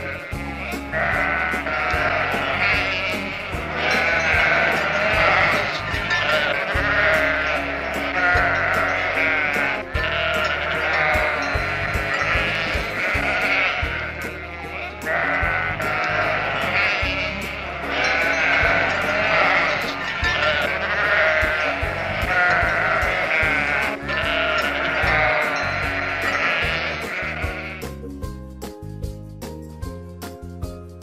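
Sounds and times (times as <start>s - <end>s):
sheep bleating: 0.0s - 27.9s
background music with steady beat: 0.0s - 31.0s.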